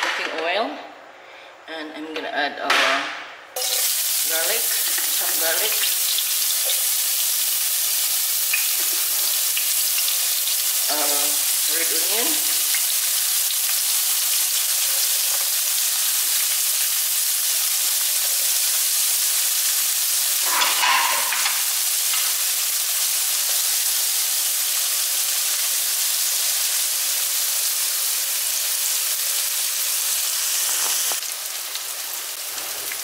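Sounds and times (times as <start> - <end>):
onion and garlic sizzling in oil: 3.6 - 33.0.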